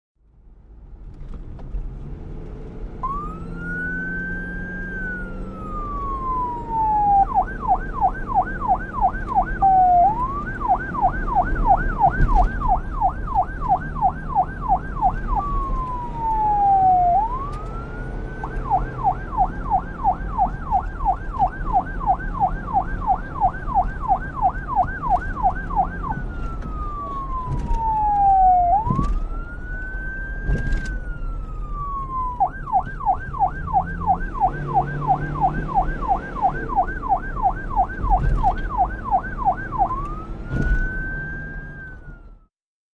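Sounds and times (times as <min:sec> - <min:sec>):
police siren wailing and yelping: 0:03.0 - 0:42.5.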